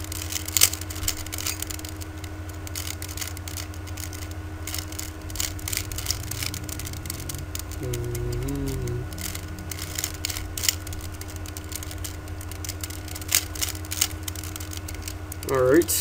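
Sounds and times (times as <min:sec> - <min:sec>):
plastic puzzle cube clicking: 0:00.0 - 0:15.6
electrical hum: 0:00.0 - 0:16.0.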